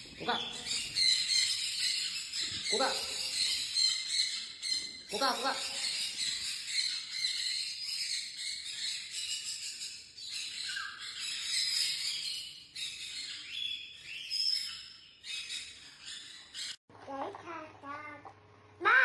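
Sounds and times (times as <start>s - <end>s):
parrots chirping and squawking: 0.0s - 16.8s.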